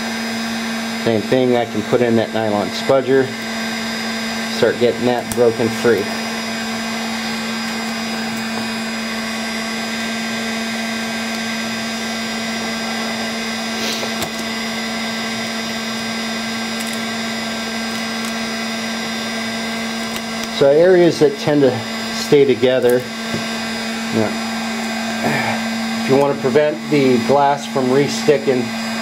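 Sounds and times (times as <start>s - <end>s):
heat gun humming: 0.0s - 29.0s.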